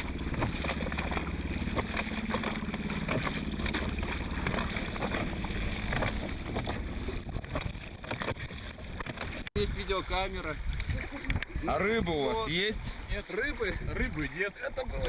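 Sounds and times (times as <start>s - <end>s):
oars splashing and knocking: 0.0s - 15.0s
wind rumble on microphone: 0.0s - 15.0s.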